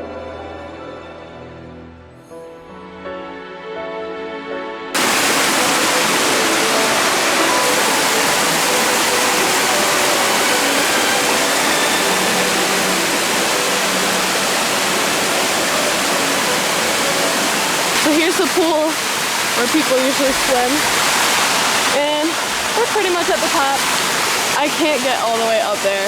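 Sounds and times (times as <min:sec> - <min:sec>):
waterfall and brook rushing: 0:05.0 - 0:26.0.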